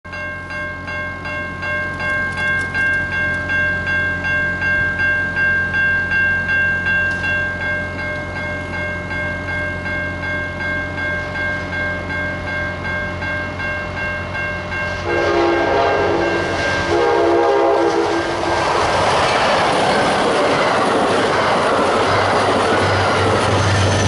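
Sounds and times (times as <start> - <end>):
crossing warning bell ringing: 0.1 - 24.0.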